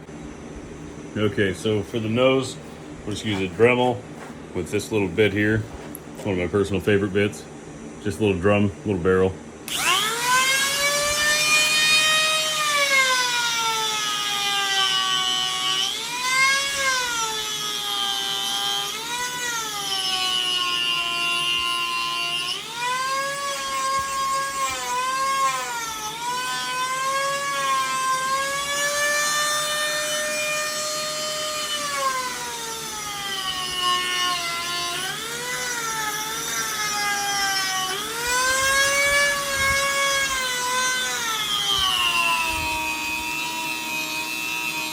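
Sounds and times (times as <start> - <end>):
rotary tool sanding wood: 1.4 - 6.3, 9.7 - 44.9.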